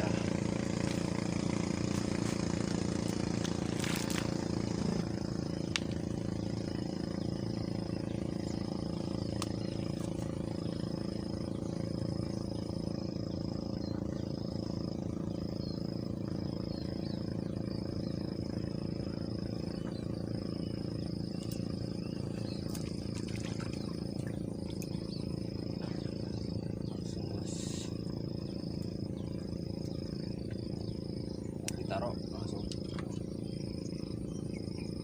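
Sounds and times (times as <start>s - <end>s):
insects trilling: 0.0s - 35.0s
steady low hum: 0.0s - 35.0s.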